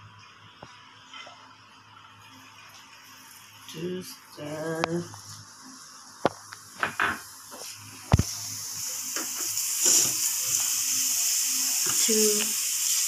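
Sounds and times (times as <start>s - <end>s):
food sizzling in a frying pan: 0.2s - 13.0s.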